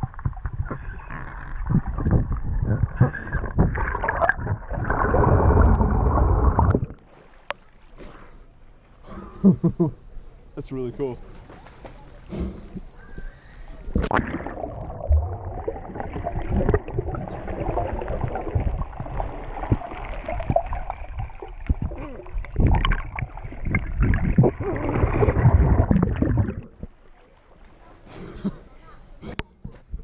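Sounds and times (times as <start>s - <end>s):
muffled underwater sloshing: 0.0s - 9.0s, 11.5s - 28.4s.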